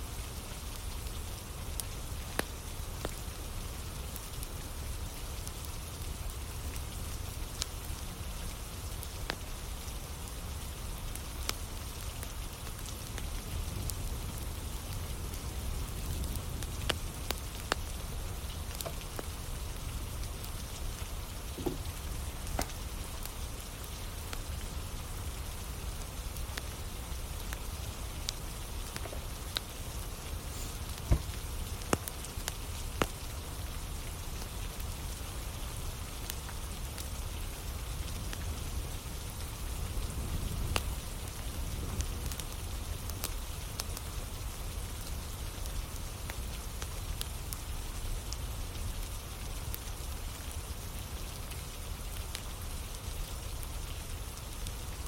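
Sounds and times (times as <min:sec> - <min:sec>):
steady rain falling: 0:00.0 - 0:55.0
campfire popping and crackling: 0:00.1 - 0:55.0.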